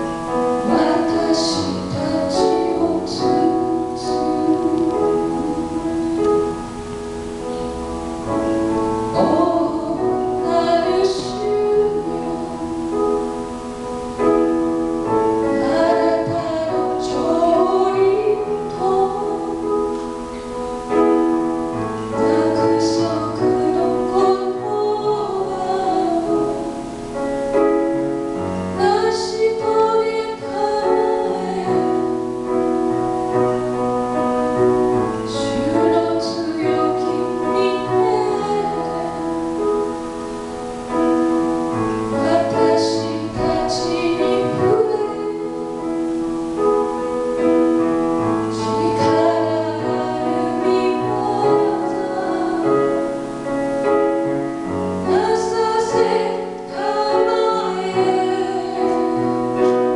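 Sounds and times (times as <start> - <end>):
woman singing with vibrato: 0.0 - 47.5, 48.2 - 59.9
grand piano: 0.0 - 59.9.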